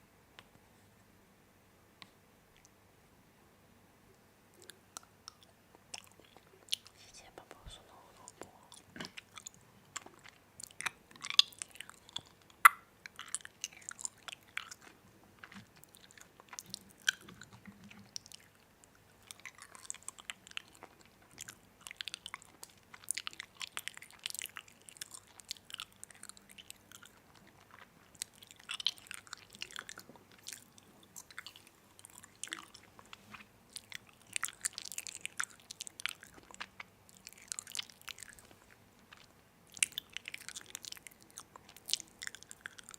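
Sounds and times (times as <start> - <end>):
chewing crunchy food: 4.5 - 42.9.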